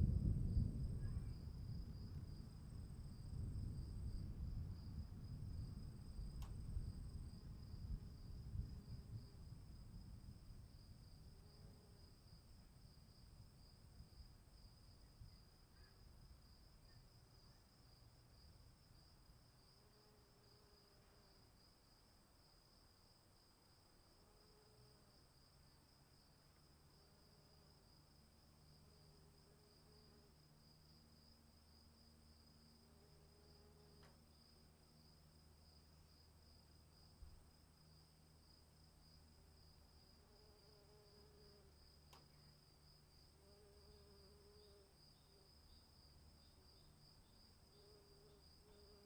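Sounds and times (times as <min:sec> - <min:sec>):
crickets chirring: 0:00.0 - 0:49.0
faint low hum: 0:00.0 - 0:49.0.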